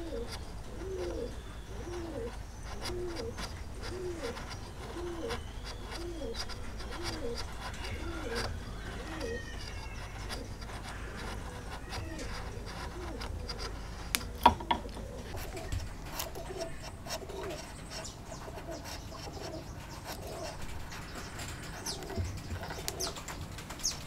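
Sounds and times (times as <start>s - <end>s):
chisel scraping wood: 0.0s - 23.2s
dove cooing: 0.0s - 24.0s.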